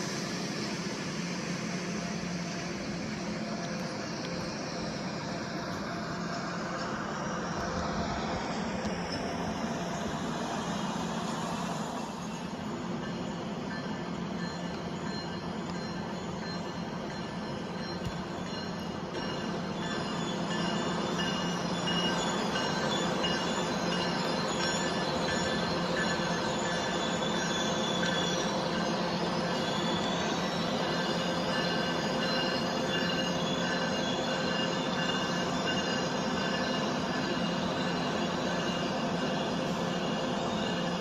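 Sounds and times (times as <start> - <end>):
train rumble: 0.0 - 41.0
train wheels squealing: 0.0 - 41.0.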